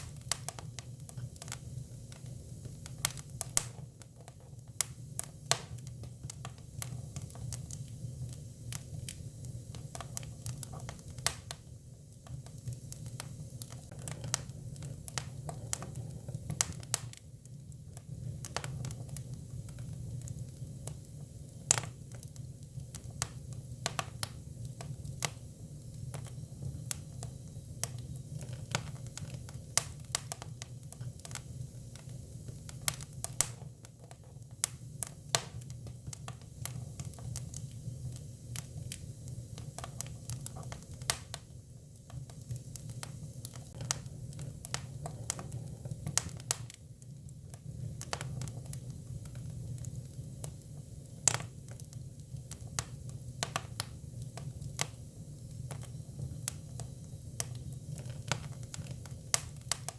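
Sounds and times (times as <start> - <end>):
firewood crackling and popping: 0.0 - 59.9
low rumble of fire: 0.0 - 59.9.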